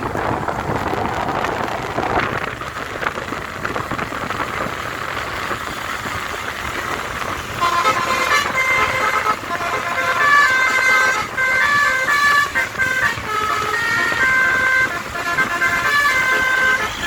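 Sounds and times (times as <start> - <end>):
engines running: 0.0 - 17.0
traffic roar: 0.0 - 17.0.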